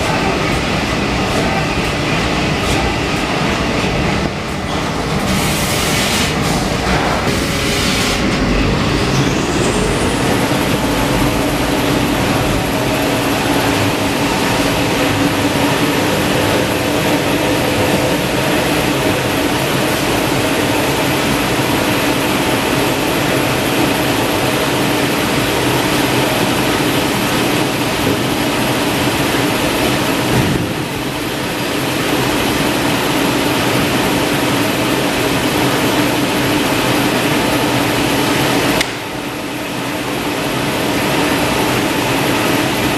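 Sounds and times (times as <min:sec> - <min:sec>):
machine high whine: 0:00.0 - 0:42.9
machine loud mechanical drone: 0:00.0 - 0:42.9.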